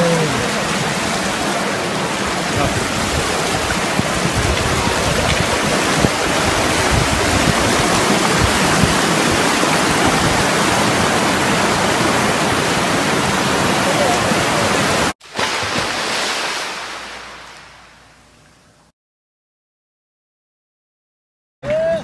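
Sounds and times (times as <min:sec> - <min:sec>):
rushing water hiss: 0:00.0 - 0:18.0.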